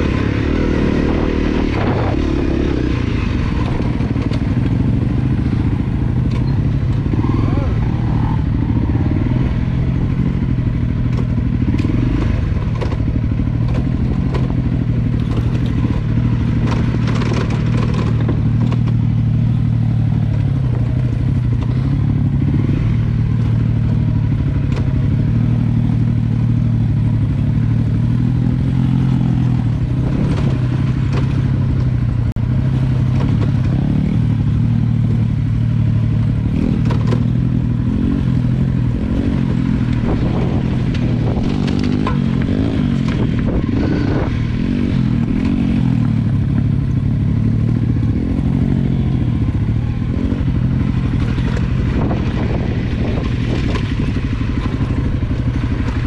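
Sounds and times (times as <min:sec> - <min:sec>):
knocks and rattles from bike: 0:00.0 - 0:07.2, 0:08.5 - 0:56.0
motorcycle engine running: 0:00.0 - 0:56.0.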